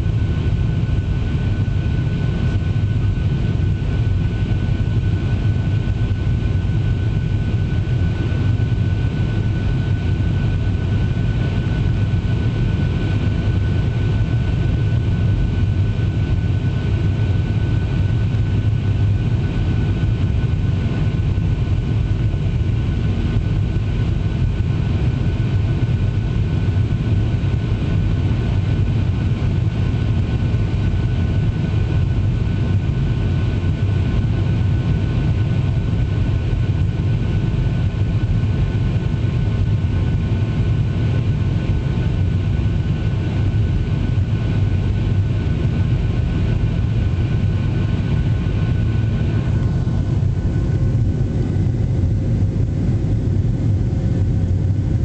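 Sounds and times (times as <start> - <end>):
jet engine drone in cabin: 0.0 - 55.0
thin jet engine whine: 0.0 - 55.0.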